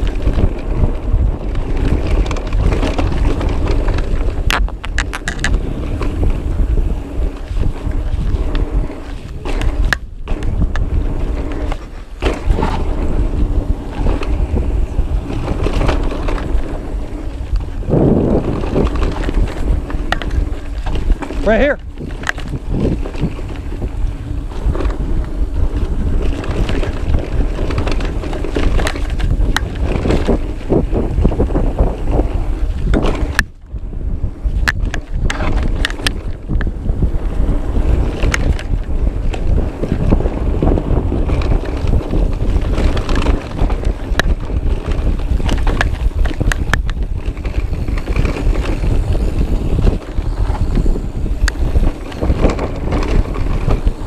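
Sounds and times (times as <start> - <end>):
knocks and rattles over rough ground: 0.0 - 54.0
mountain bike rumble: 0.0 - 54.0
wind rushing over microphone: 0.0 - 54.0.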